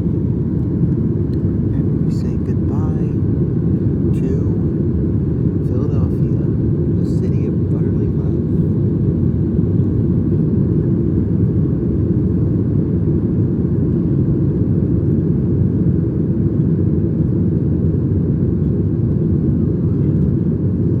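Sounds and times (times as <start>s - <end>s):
airplane cabin rumble: 0.0s - 21.0s.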